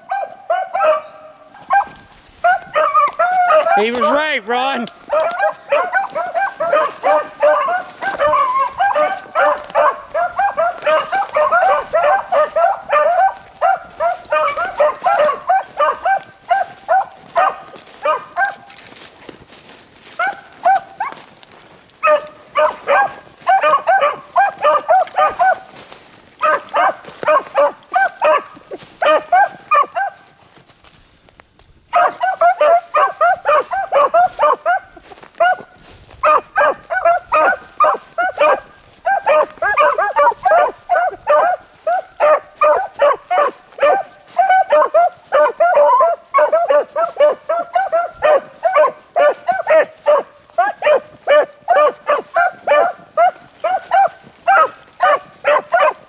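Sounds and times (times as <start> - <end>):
dogs yelping and barking: 0.0 - 4.2, 4.9 - 19.1, 20.0 - 30.4, 31.9 - 56.0.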